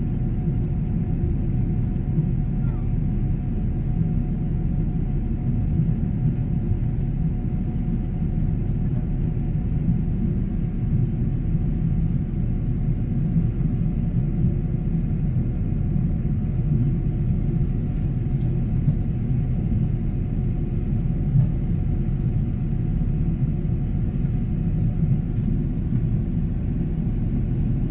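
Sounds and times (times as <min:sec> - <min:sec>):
jet engines deep rumble: 0:00.0 - 0:27.9.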